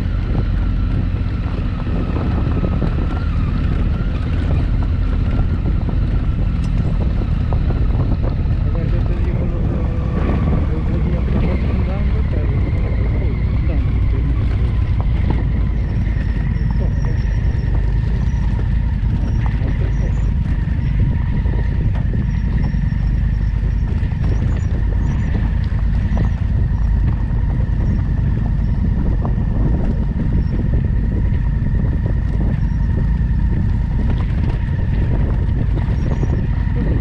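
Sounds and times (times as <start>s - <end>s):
motorcycle engine rumble: 0.0s - 37.0s.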